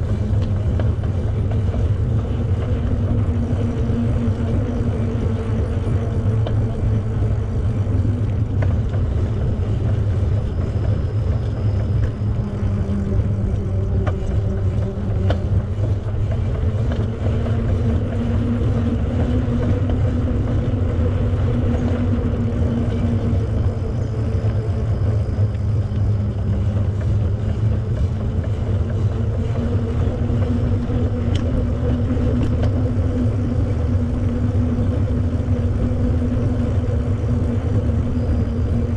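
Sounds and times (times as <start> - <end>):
faint hum: 0.0 - 38.9
wind rumble on microphone: 0.0 - 38.9.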